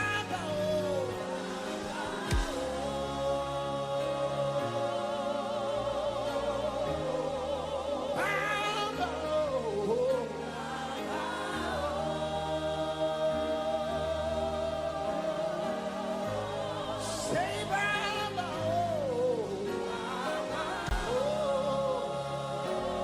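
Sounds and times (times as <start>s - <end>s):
keyboard and bass chords: 0.0s - 23.0s
voices singing gospel: 0.0s - 23.0s.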